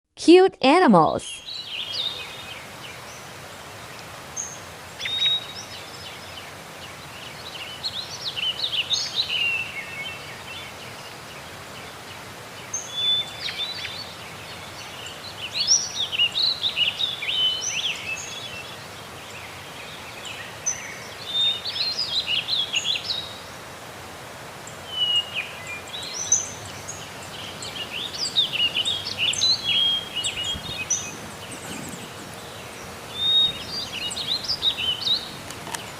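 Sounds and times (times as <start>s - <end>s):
steady background hiss: 0.2s - 35.9s
songbirds chirping and trilling: 1.4s - 23.6s, 24.6s - 35.9s.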